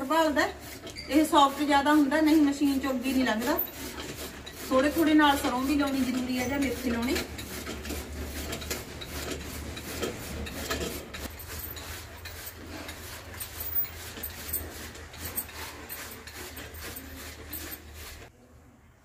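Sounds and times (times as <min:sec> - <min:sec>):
hand-cranked cutting machine chopping: 0:00.0 - 0:18.3.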